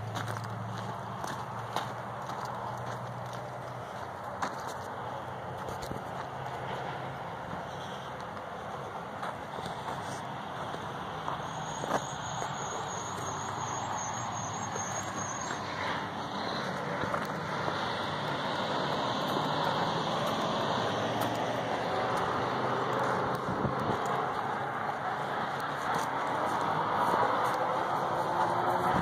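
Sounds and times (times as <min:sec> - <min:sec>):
road traffic rushing: 0:00.0 - 0:29.0.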